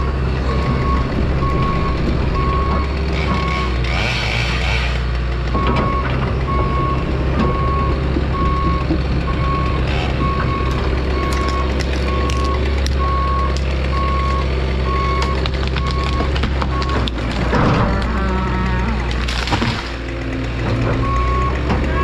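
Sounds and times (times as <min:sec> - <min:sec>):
excavator alarm beeping: 0:00.0 - 0:03.9, 0:05.5 - 0:19.2, 0:20.7 - 0:22.0
diesel engine running: 0:00.0 - 0:22.0.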